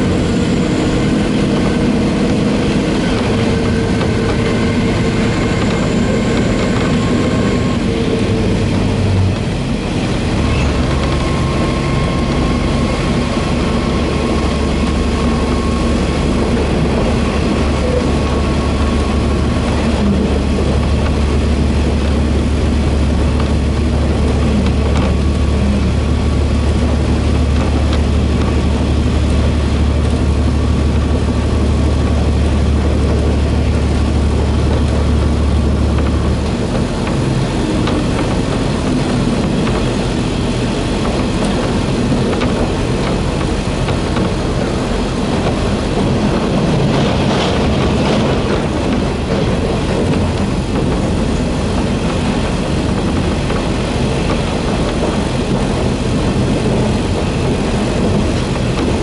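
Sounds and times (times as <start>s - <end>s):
deep engine drone: 0.0s - 59.0s
wheel-on-rail rumble and rattle: 0.0s - 59.0s.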